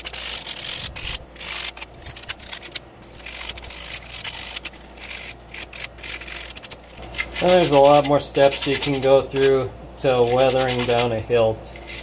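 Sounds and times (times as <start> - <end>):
sandpaper rubbing metal: 0.0 - 12.0.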